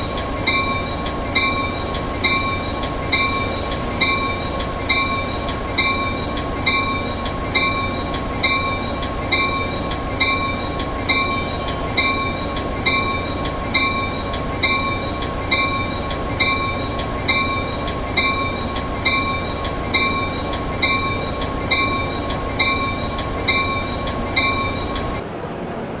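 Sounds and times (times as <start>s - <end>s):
locomotive bell ringing: 0.0s - 25.2s.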